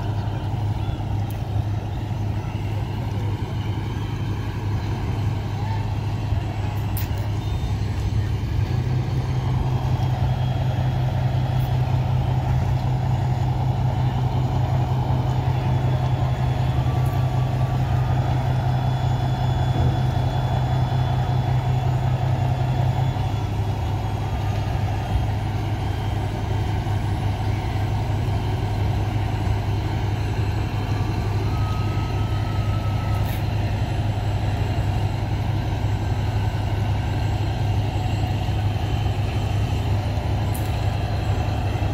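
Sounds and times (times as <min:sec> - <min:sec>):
heavy vehicle engine humming: 0:00.0 - 0:41.9.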